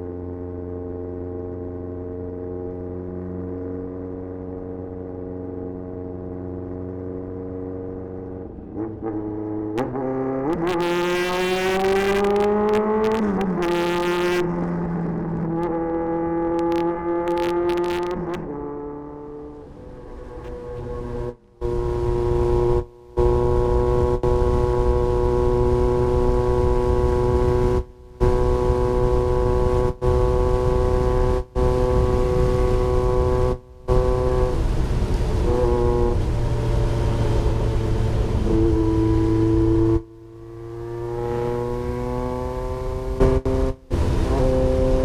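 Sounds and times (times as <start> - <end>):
motorcycle engine droning: 0.0 - 45.0.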